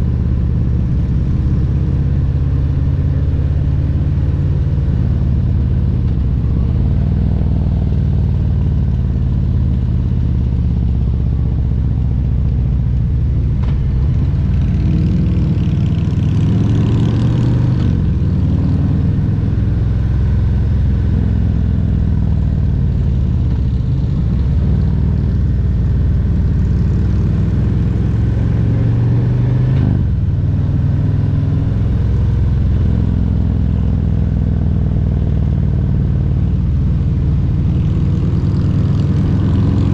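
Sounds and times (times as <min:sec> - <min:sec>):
motorcycle engine running: 0:00.0 - 0:29.1, 0:30.0 - 0:39.9.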